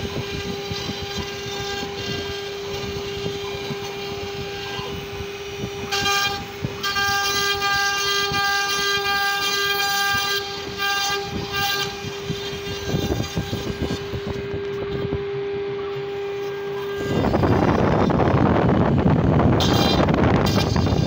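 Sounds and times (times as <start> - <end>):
router spindle whining: 0.0 - 21.0
wood cutting crackle: 0.0 - 21.0.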